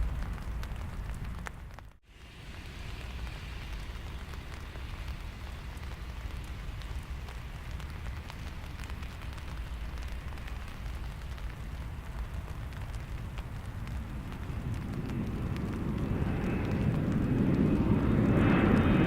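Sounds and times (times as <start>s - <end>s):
low steady rumble: 0.0s - 19.0s
raindrop ticks: 0.0s - 19.0s
steady rain falling: 0.0s - 19.0s.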